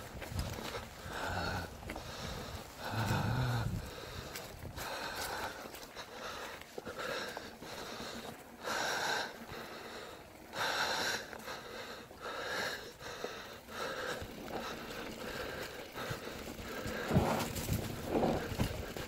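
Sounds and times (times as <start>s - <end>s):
person breathing hard: 0.4s - 19.0s.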